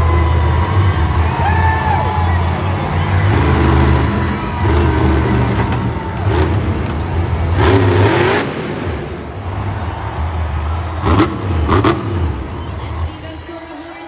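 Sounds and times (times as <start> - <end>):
truck engine revving: 0.0 - 13.6.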